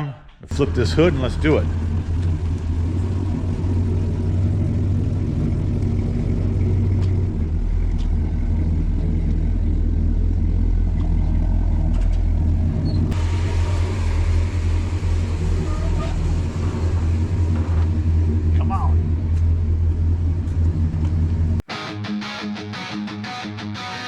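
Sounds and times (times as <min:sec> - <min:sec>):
car engine idling: 0:00.4 - 0:21.6.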